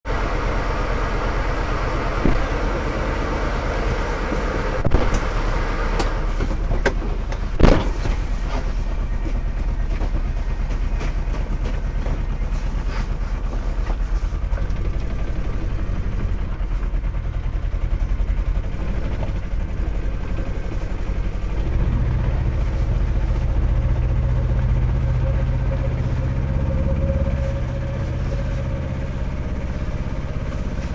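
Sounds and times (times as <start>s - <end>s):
engine chugging: 0.0s - 30.9s.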